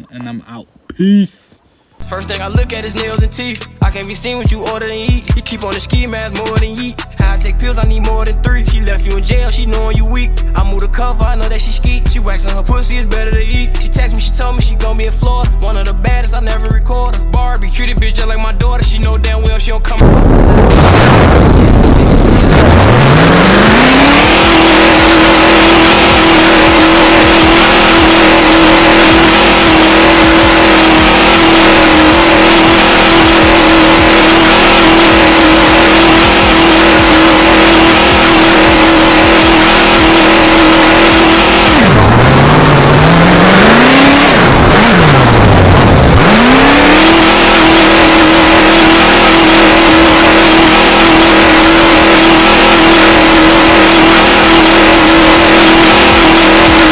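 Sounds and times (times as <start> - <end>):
car engine revving: 2.0 - 56.9.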